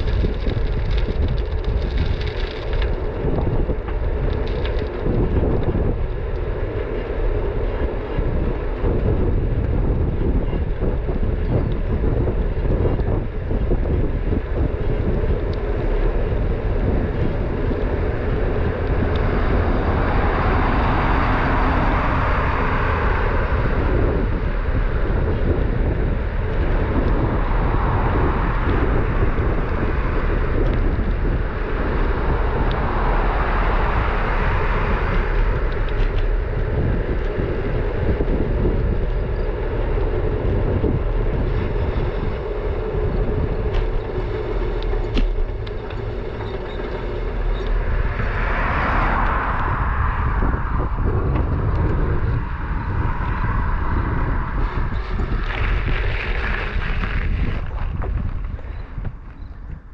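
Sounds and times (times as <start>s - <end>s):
cars passing: 0.0s - 59.9s
road rumble: 0.0s - 59.9s
wind buffeting microphone: 0.0s - 59.9s.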